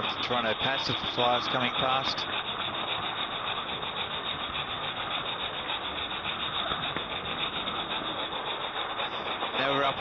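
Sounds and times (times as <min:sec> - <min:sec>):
model train wheels rumbling on rail: 0:00.0 - 0:10.0.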